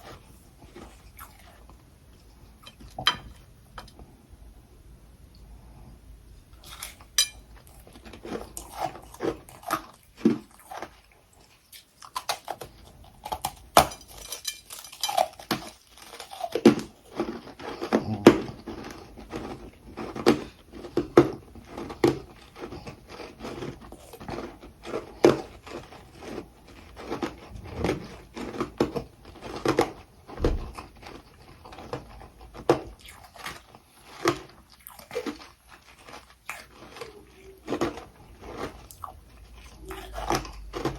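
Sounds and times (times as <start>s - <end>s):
chewing crushed ice: 0.0s - 3.3s, 6.5s - 40.9s.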